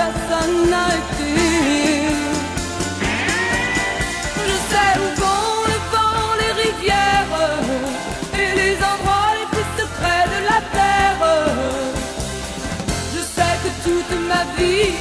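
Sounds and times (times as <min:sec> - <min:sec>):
band with steady beat: 0:00.0 - 0:15.0
person singing pop song: 0:00.0 - 0:15.0.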